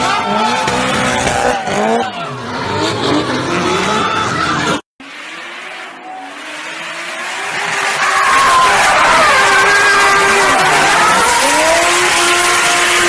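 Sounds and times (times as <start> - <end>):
car engines revving hard: 0.0 - 13.0
tyres squealing and skidding: 0.0 - 13.0.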